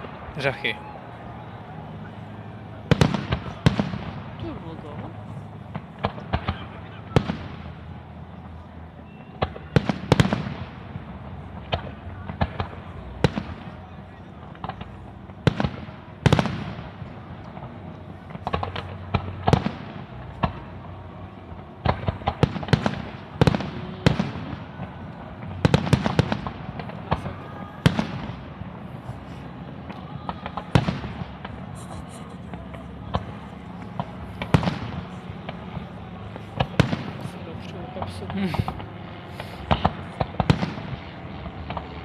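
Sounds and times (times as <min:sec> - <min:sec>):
fireworks bursting with sharp bangs: 0:00.0 - 0:42.0.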